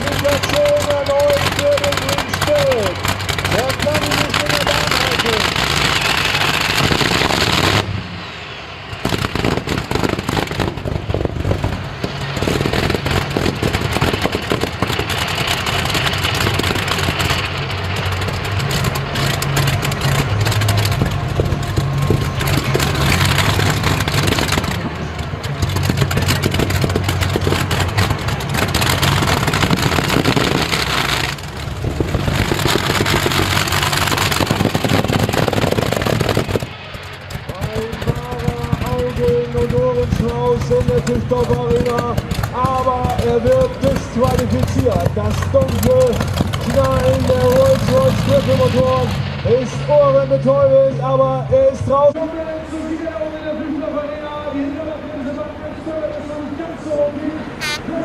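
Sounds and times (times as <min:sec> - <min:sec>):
tractor exhaust banging: 0:00.0 - 0:51.9, 0:57.4 - 0:58.0.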